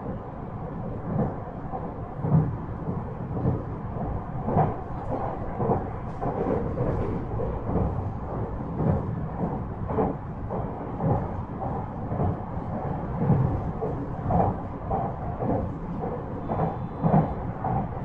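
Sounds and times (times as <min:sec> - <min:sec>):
train running low rumble: 0:00.0 - 0:18.0.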